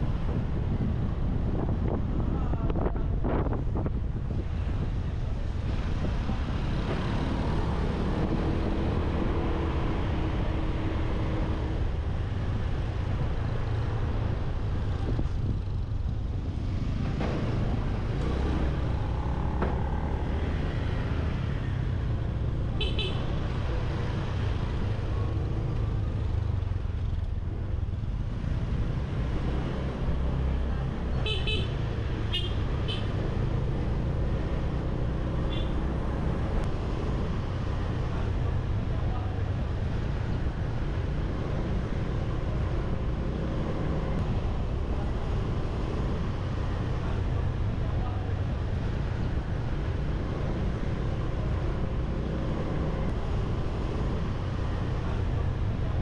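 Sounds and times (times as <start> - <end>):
motorbike engine and wind rumble: 0.0 - 56.0
passing vehicles: 0.0 - 56.0.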